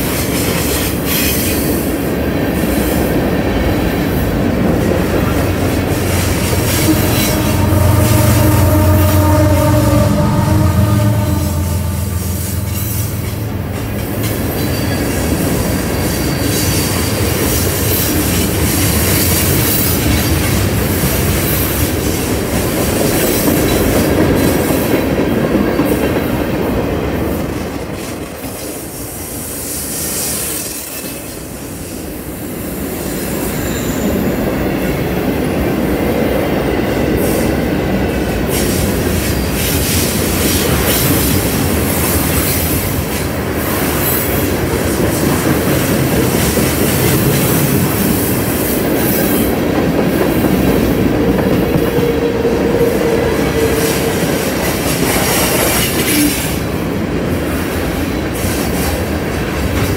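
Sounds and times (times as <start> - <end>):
freight train wheels rumbling and clattering: 0.0 - 59.9.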